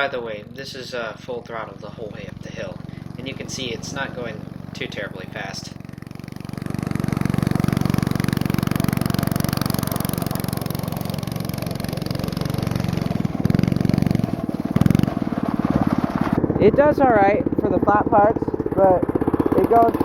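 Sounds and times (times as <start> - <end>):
go-kart engine at full throttle: 0.0 - 20.0.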